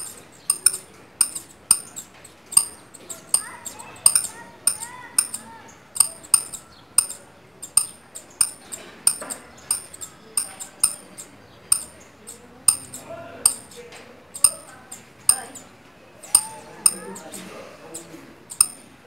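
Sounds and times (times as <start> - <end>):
finch chip calls: 0.0 - 13.8, 14.4 - 17.4.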